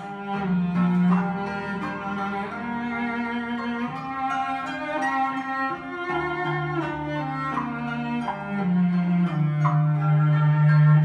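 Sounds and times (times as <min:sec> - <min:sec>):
cello-led string music: 0:00.0 - 0:11.0.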